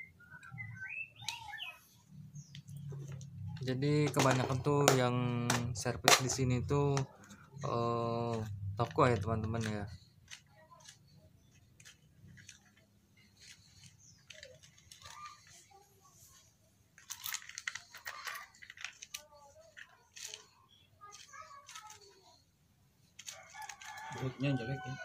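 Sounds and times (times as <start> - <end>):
laptop parts clicking and rattling: 2.4 - 15.9, 16.9 - 25.0.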